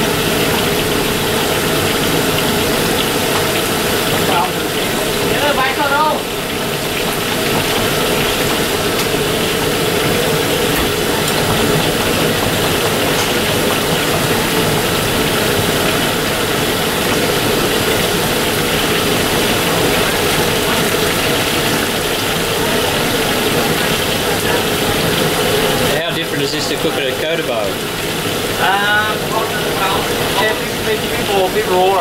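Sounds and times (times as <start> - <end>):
burner and extraction hood drone: 0.0 - 32.0
fish sizzling in hot oil: 0.0 - 32.0.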